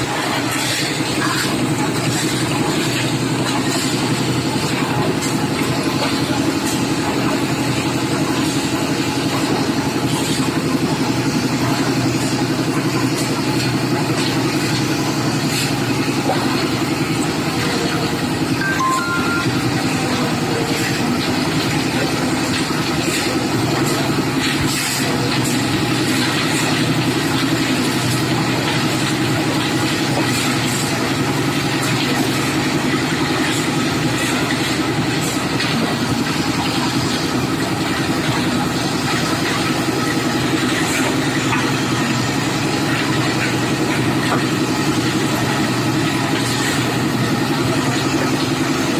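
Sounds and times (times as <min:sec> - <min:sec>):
concrete mixer engine running: 0:00.0 - 0:48.9.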